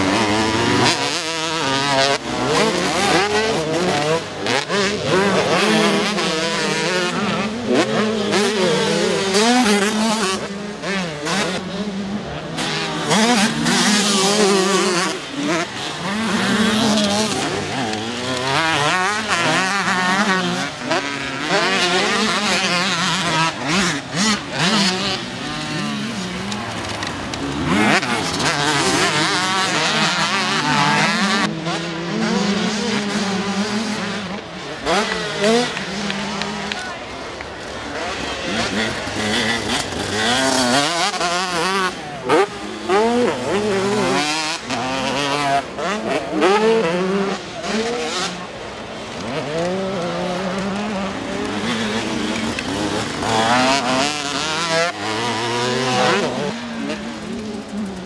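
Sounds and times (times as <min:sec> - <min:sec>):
motocross bikes revving: 0:00.0 - 0:58.0.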